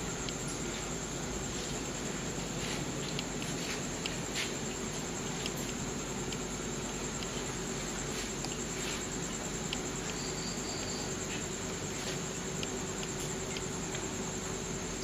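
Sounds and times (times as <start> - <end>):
crickets trilling: 0.0 - 15.0
insect chirps: 0.0 - 15.0.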